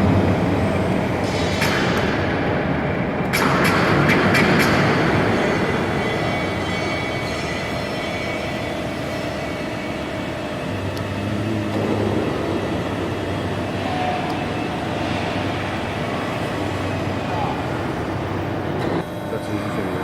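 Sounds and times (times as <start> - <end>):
deeper hum: 0.0 - 20.0
machinery humming: 0.0 - 20.0.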